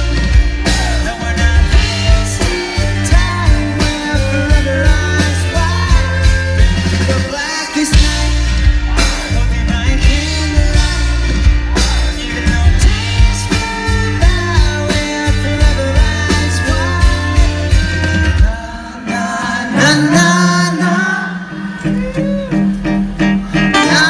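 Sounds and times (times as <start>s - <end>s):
man singing into a microphone: 0.0s - 22.7s, 23.5s - 24.0s
live rock band playing: 0.0s - 24.0s.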